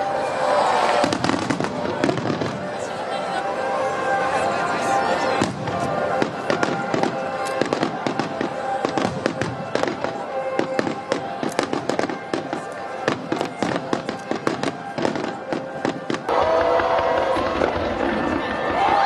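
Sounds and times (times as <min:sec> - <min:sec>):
fireworks bursting: 0:00.0 - 0:04.2, 0:05.3 - 0:19.0.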